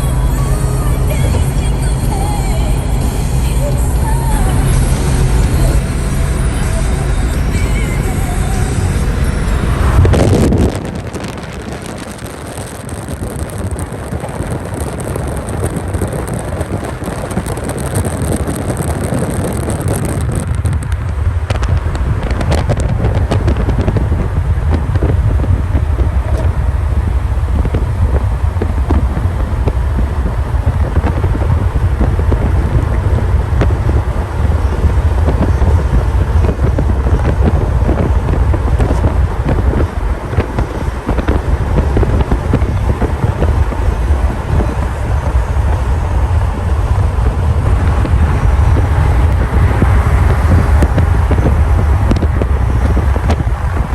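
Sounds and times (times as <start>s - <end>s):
cars driving: 0.0s - 53.9s
vehicle and road noise: 0.0s - 53.9s
wind buffeting microphone: 0.0s - 53.9s.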